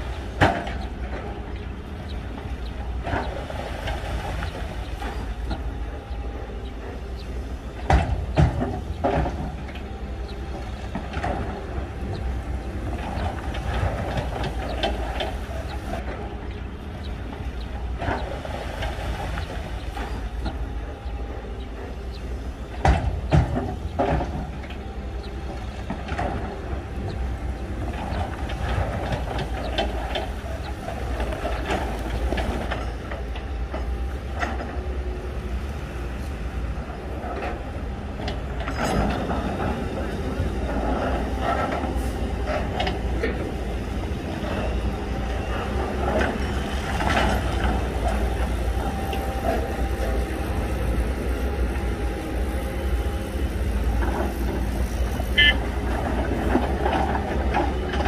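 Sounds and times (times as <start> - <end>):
bulldozer diesel rumble: 0.0 - 58.0
steel tracks clattering: 0.0 - 58.0.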